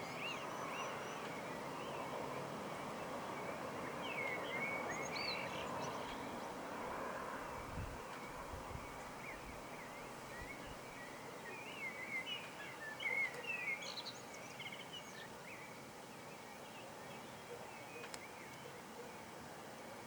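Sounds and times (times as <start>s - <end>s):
songbird twittering chirps: 0.0s - 6.6s, 7.4s - 20.0s
faint outdoor background noise: 0.0s - 20.0s.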